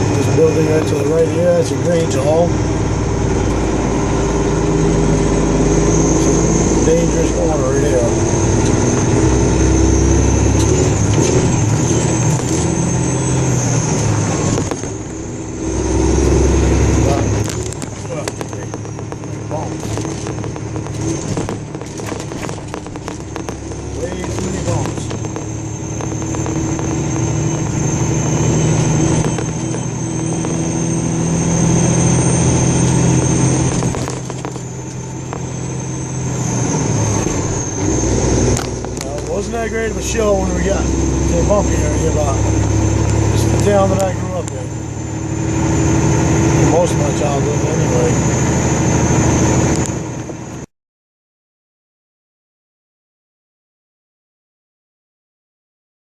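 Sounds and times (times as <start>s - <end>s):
car engine and road rumble: 0.0s - 50.7s.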